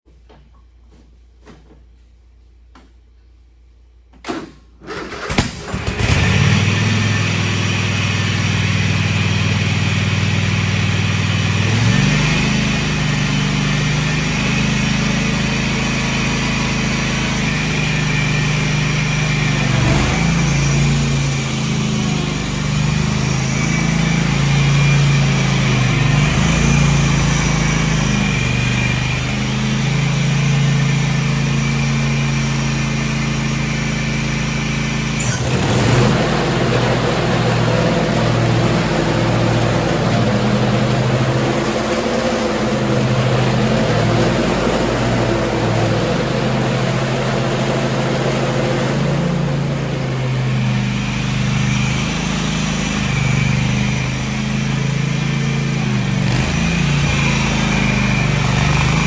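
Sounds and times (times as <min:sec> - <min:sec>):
garden tractor engine running: 0:04.8 - 0:59.0.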